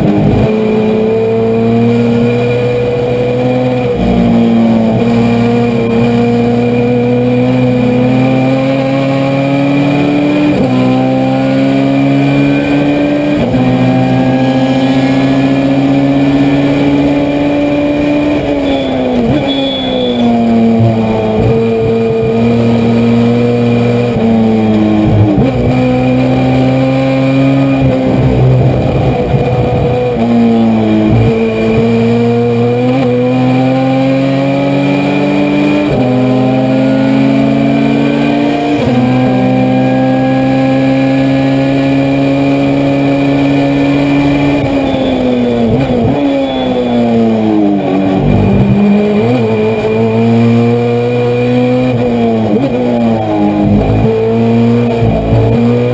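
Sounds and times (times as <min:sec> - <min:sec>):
race car engine at full throttle: 0:00.0 - 0:55.9.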